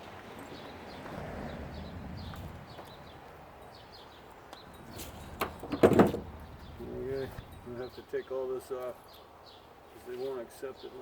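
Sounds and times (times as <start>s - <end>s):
small bird chirping: 0.4s - 10.0s.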